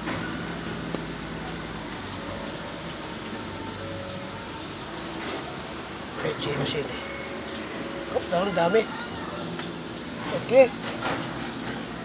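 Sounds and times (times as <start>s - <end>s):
food sizzling and crackling: 0.0s - 12.0s.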